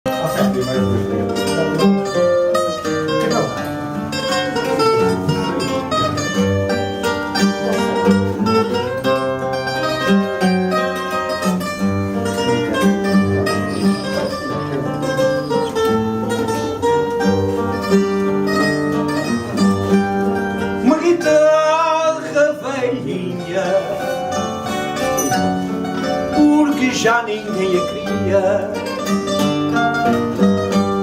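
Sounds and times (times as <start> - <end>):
plucked guitar melody: 0.1 - 31.0.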